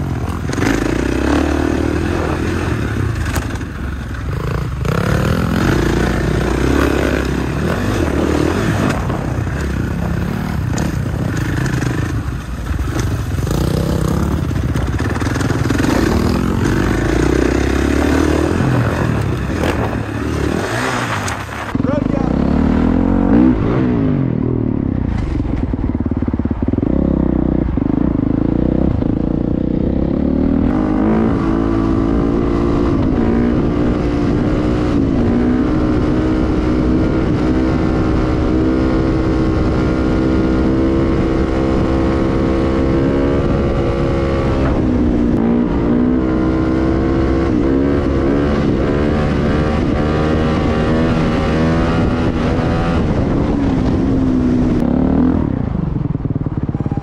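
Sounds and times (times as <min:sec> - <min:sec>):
wind on microphone: 0:00.0 - 0:21.8, 0:22.8 - 0:57.0
dirt bike engine revving: 0:00.0 - 0:25.0, 0:25.9 - 0:55.7.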